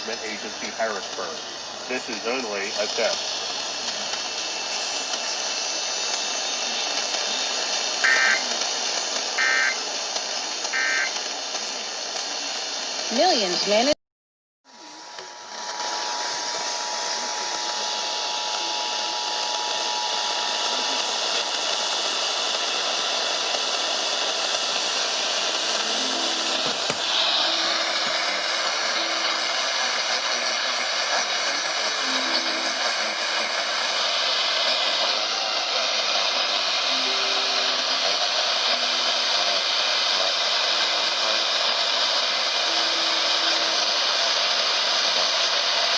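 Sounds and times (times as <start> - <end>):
radio static hiss: 0.0 - 14.0, 14.7 - 45.9.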